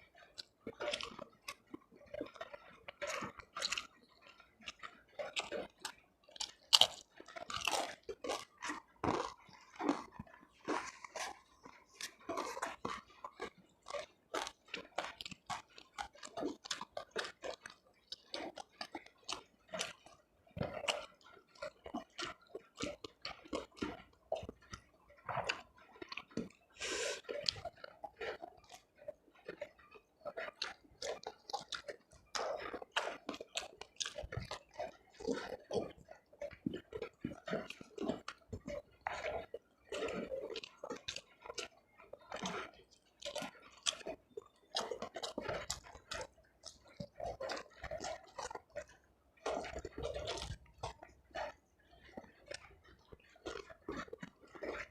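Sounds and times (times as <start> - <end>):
person chewing crunchy food: 0.0 - 54.9.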